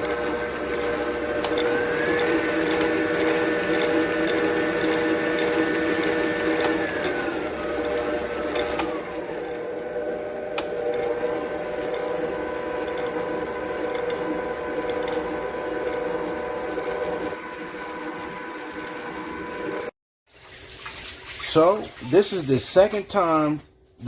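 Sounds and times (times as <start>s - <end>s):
stand mixer whining: 0.0s - 20.0s.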